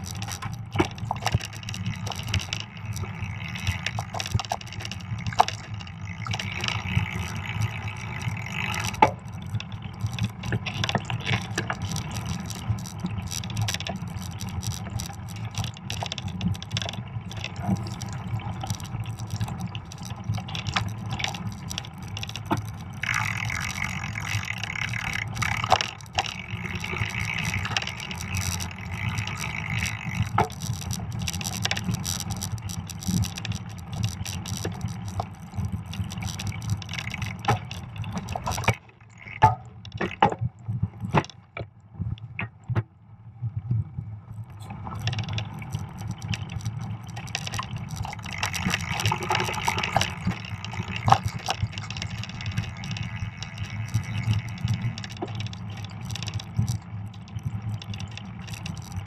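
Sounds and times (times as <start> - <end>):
bike tyres rolling on snow: 0.0 - 41.2, 43.9 - 59.0
bike clicks and rattles: 0.0 - 42.8, 44.4 - 59.0.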